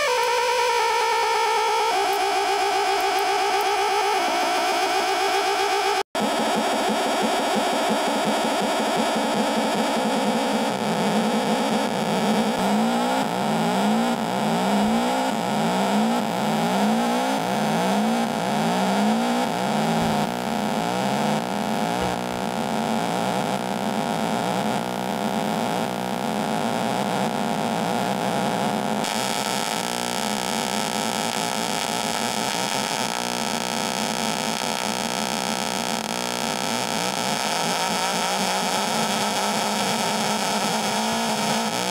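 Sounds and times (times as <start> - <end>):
noisy electronic drone: 0.0 - 41.9.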